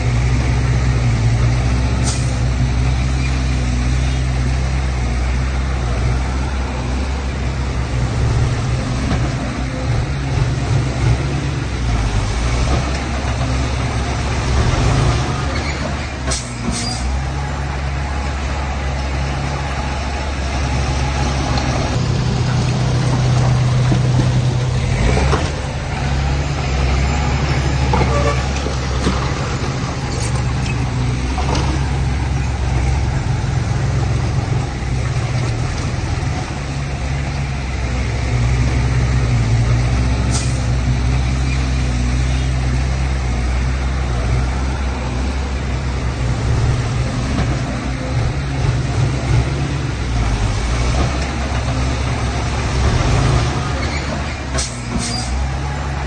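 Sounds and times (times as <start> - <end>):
heavy diesel machinery engines: 0.0 - 56.0.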